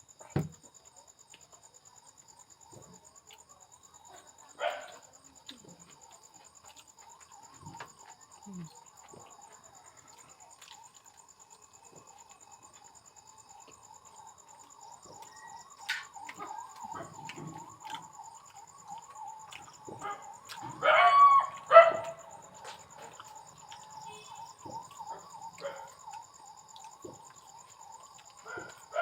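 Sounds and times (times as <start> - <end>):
chewing with clicks: 0.8 - 2.2, 2.8 - 20.8, 21.4 - 29.0.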